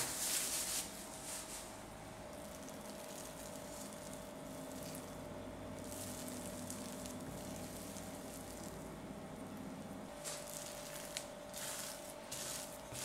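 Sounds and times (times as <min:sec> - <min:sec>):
dough squishing: 0:00.0 - 0:13.0.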